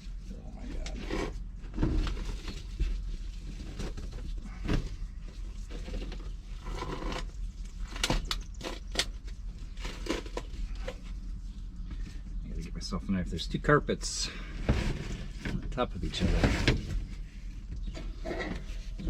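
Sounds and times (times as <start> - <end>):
carpet rustling and scraping: 0.0 - 12.8, 14.4 - 19.0.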